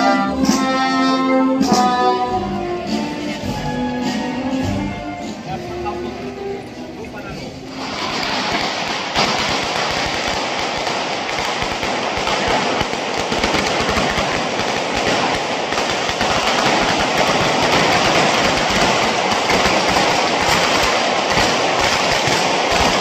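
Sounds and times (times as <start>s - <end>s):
firecrackers crackling: 2.8s - 23.0s.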